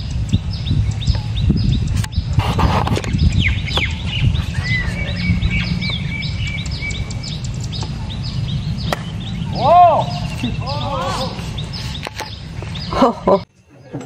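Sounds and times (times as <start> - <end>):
low rumble: 0.0 - 13.4
birds chirping: 0.0 - 14.0.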